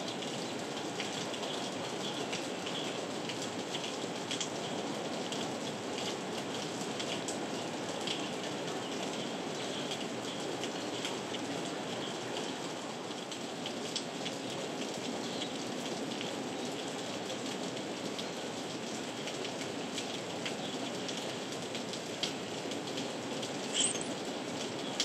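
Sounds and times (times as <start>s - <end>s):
heavy rain on ground: 0.0s - 25.0s.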